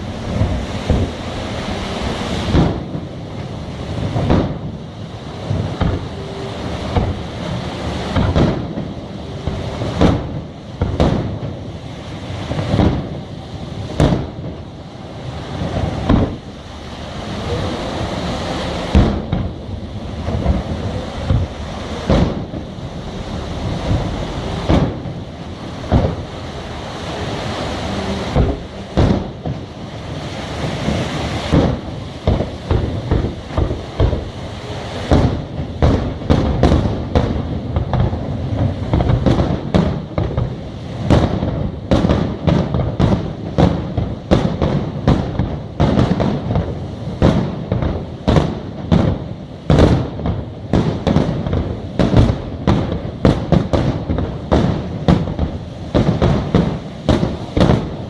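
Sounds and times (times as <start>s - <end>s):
fireworks bursting with bangs: 0.0s - 58.0s
rumbling haze: 0.0s - 58.0s.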